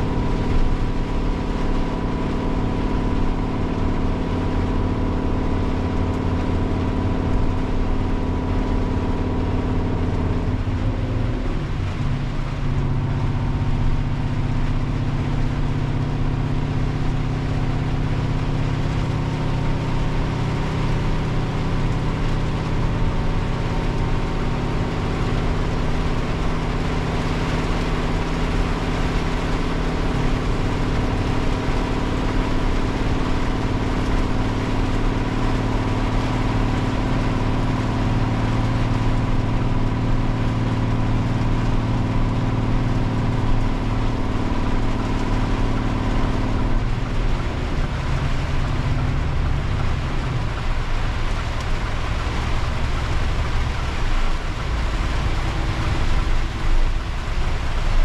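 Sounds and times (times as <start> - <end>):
diesel truck engine high revs: 0.0 - 58.0
rain: 0.0 - 58.0
road noise: 0.0 - 58.0.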